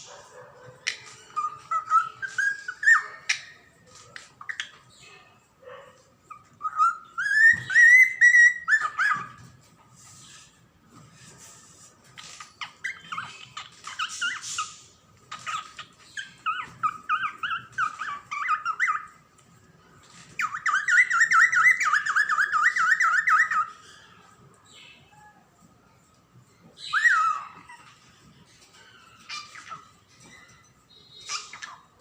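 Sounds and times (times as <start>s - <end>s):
cockatiel chirping and trilling: 0.7s - 5.2s, 6.2s - 19.2s, 20.0s - 25.4s, 26.6s - 32.0s.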